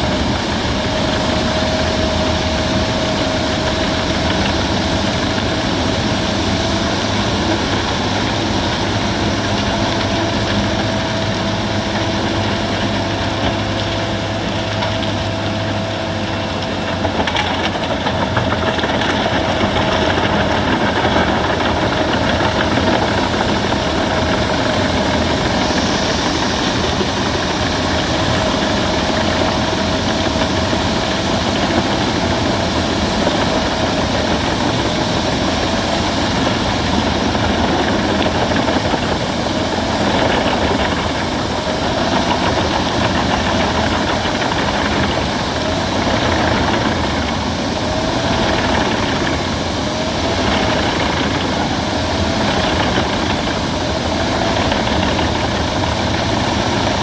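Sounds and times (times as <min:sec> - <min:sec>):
wood chipper chipping branches: 0:00.0 - 0:57.0.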